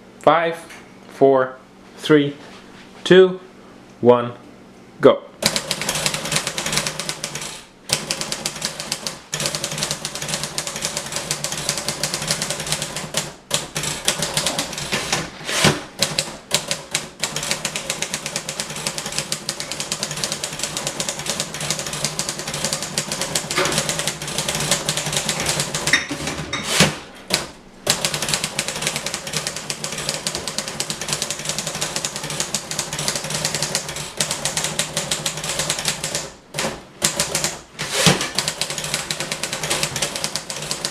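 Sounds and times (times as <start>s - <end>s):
typewriter keystrokes clattering: 5.4s - 15.3s, 16.0s - 26.4s, 27.3s - 40.9s.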